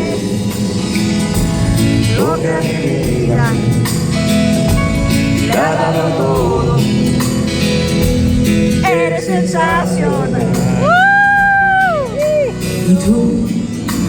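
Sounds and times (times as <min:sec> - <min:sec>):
live band playing a ballad: 0:00.0 - 0:14.0.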